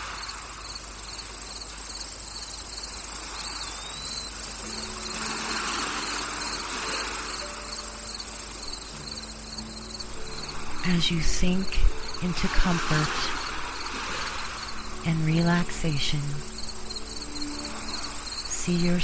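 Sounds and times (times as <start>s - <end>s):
crickets chirping: 0.0s - 19.0s
high-pitched insect trill: 0.0s - 19.0s
soft rushing wash: 0.0s - 19.0s
low sustained tones: 2.9s - 19.0s.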